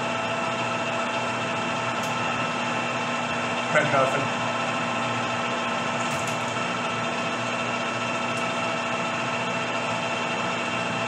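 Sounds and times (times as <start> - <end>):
metal lathe motor humming and whining: 0.0 - 11.0.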